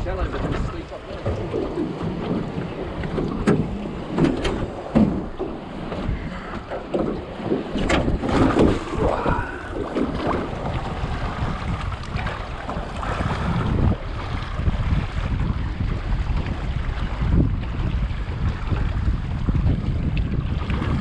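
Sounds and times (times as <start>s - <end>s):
waves splashing against hull: 0.0s - 21.0s
wind buffeting microphone: 0.0s - 21.0s.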